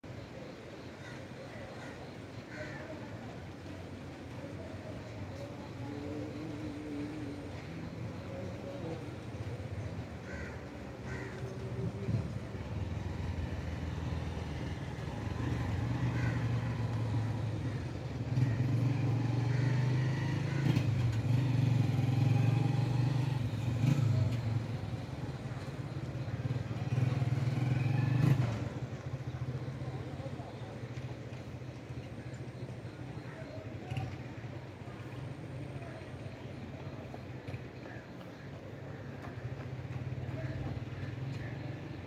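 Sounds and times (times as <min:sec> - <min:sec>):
vehicle engine humming: 0:00.0 - 0:42.0.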